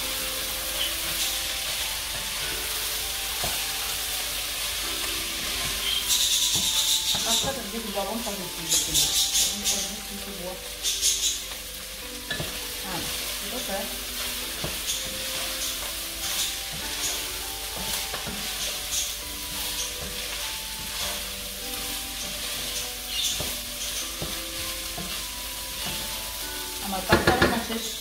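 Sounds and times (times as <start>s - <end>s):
food sizzling in a pot: 0.0s - 28.0s
wooden spoon scraping a pot: 4.5s - 11.6s, 12.2s - 28.0s.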